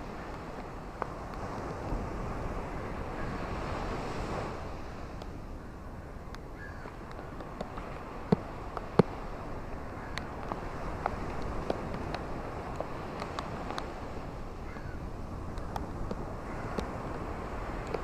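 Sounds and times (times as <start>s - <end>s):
ocean waves washing on beach: 0.0s - 18.0s.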